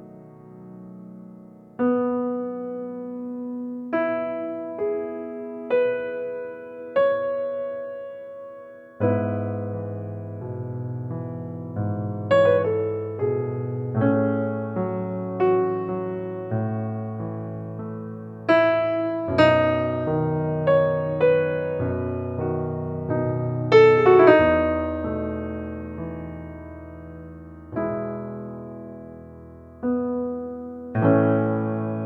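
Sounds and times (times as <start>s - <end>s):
slow calm piano music: 0.0s - 32.0s.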